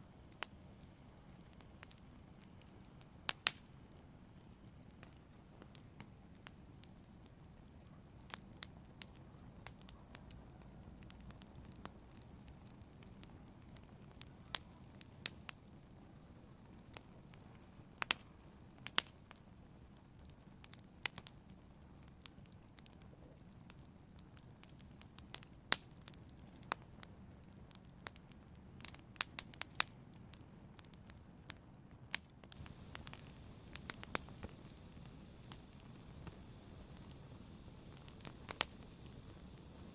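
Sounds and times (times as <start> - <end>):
fire crackling and popping: 0.0 - 39.9
low rumble of fire: 0.0 - 39.9.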